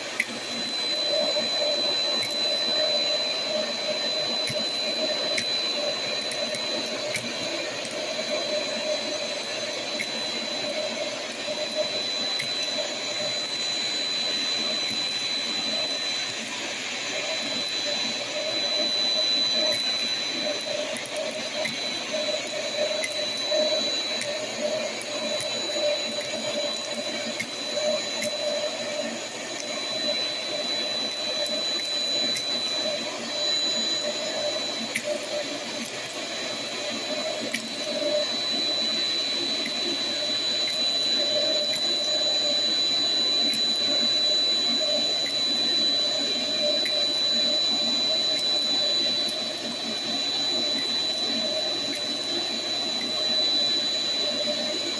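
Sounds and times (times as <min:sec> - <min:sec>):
shop vac suction with whine: 0:00.0 - 0:54.9.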